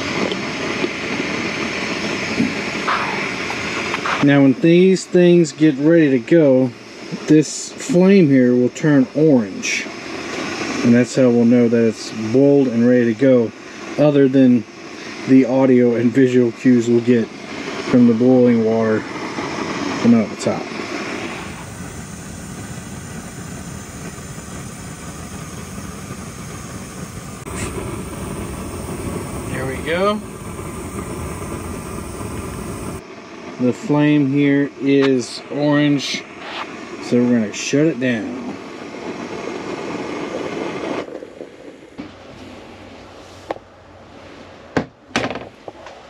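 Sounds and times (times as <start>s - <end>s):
camp stove burning: 0.0s - 46.0s.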